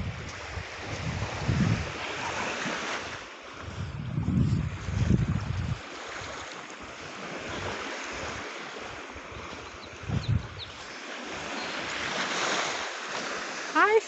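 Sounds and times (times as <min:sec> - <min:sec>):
wind gust bumping microphone: 0:00.0 - 0:12.8
small waves washing on beach: 0:00.0 - 0:14.0
wind: 0:00.0 - 0:14.0.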